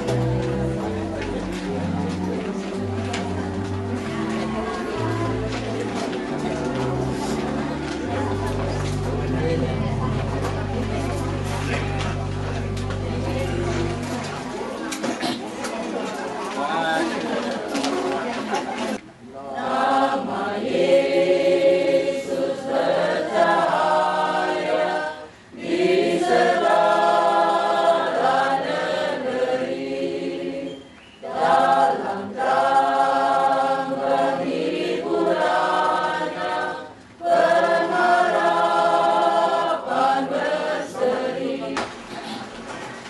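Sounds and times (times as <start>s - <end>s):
choir singing: 0.0s - 14.8s, 19.4s - 42.4s.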